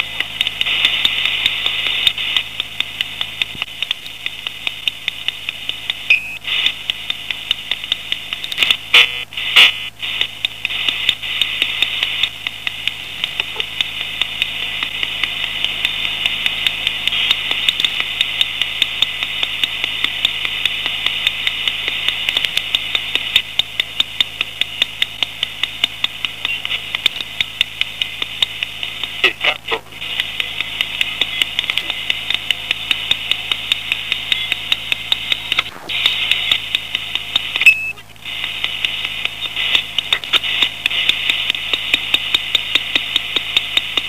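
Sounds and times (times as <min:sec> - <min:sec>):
crackling bursts: 0:00.0 - 0:44.0
electronic hiss: 0:00.0 - 0:44.0
faint low hum: 0:00.0 - 0:44.0
sharp irregular clicks: 0:00.0 - 0:44.0.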